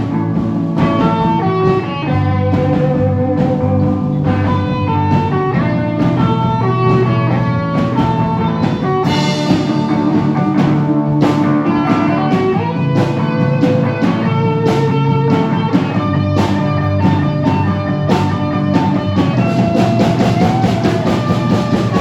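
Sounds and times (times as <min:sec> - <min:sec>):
drum beat: 0:00.0 - 0:22.0
guitar notes: 0:00.0 - 0:22.0.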